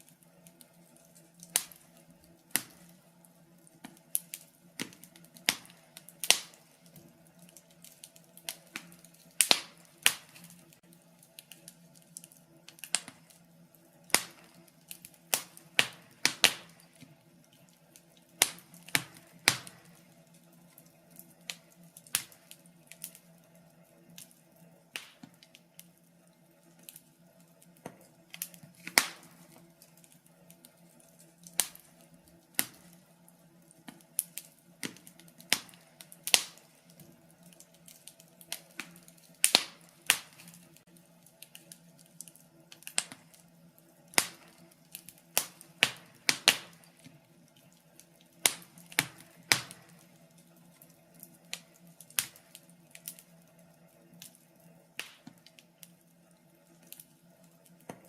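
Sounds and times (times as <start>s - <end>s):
faint steady hum: 0.0s - 58.0s
wood fire crackling and popping: 0.0s - 58.0s.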